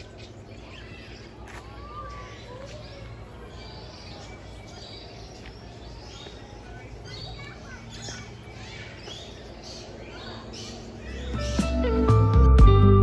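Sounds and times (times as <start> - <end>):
bird chirps: 0.0 - 12.0
low background hum: 0.0 - 13.0.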